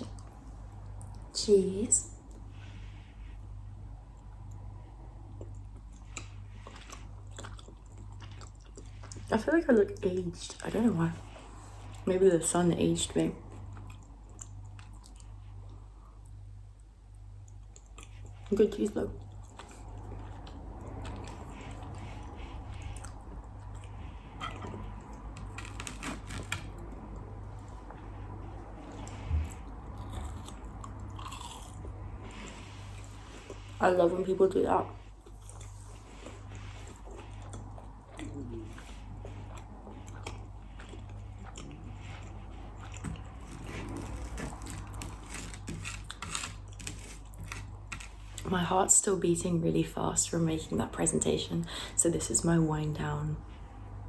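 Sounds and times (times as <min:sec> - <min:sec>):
steady low hum: 0:00.0 - 0:54.0
person chewing food: 0:02.2 - 0:12.0, 0:13.4 - 0:33.8, 0:35.0 - 0:48.5.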